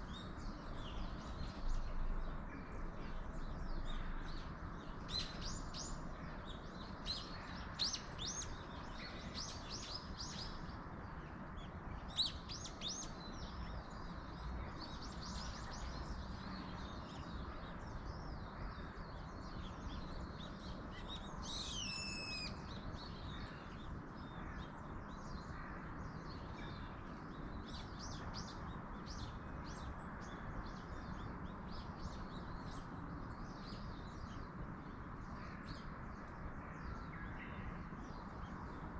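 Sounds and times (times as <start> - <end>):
wind in trees: 0.0 - 38.9.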